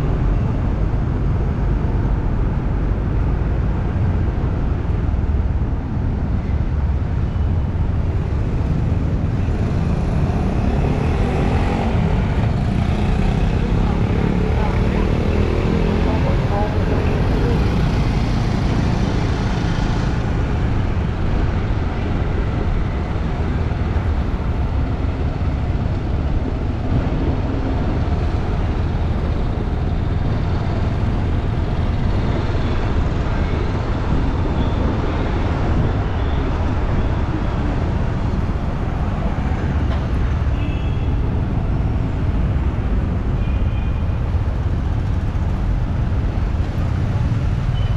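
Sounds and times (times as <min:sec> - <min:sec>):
street traffic rumble: 0:00.0 - 0:47.9.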